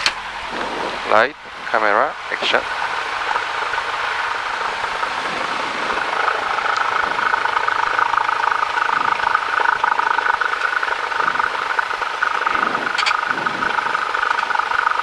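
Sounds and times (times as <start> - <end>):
aircraft engine and propeller: 0.0 - 15.0.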